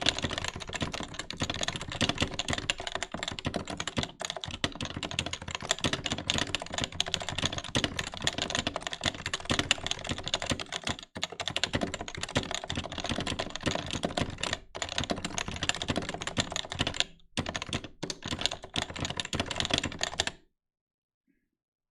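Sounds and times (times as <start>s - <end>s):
fast keyboard typing: 0.0s - 20.4s.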